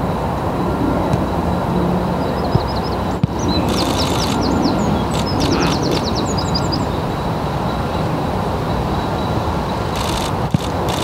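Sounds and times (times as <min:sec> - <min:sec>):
small songbirds chirping: 0:02.2 - 0:11.0.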